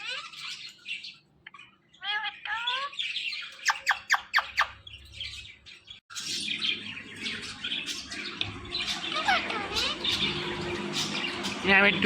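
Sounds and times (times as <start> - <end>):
parrot squawking: 0.0 - 5.6, 6.2 - 11.7
parrot chirping and chatter: 0.0 - 12.0.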